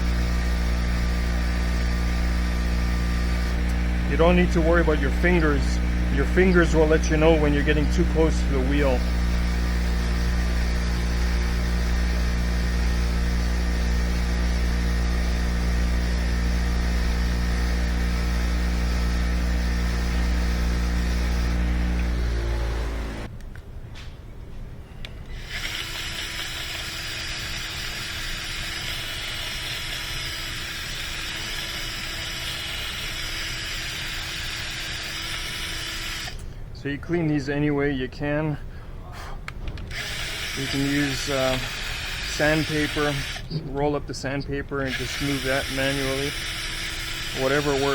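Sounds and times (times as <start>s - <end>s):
bench grinder running and winding down: 0.0s - 23.3s, 25.3s - 36.4s, 39.9s - 43.8s, 44.8s - 47.9s
drill high whine: 0.0s - 23.3s, 25.3s - 36.4s, 39.9s - 47.9s.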